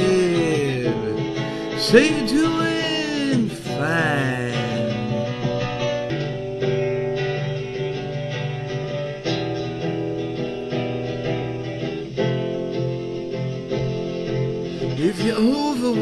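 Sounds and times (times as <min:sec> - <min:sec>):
strummed guitar chords: 0:00.0 - 0:16.0.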